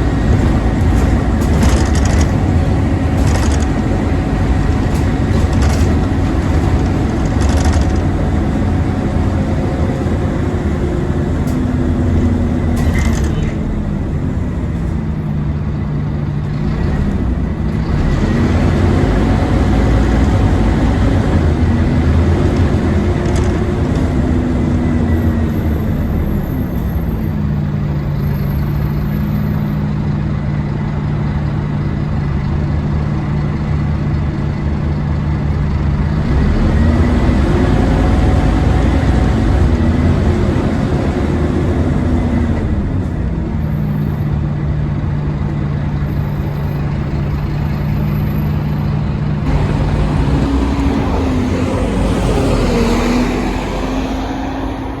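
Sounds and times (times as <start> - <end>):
bus engine whining and idling: 0.0 - 55.0.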